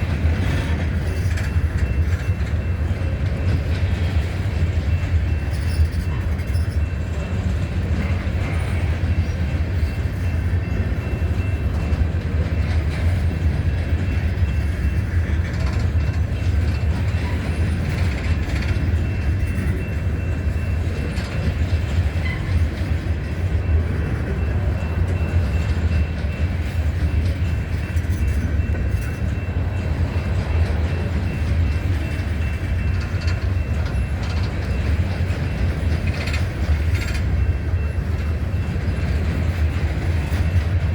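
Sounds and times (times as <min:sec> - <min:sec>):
freight train rumbling past: 0:00.0 - 0:40.9
wheels ringing on rails: 0:00.0 - 0:40.9.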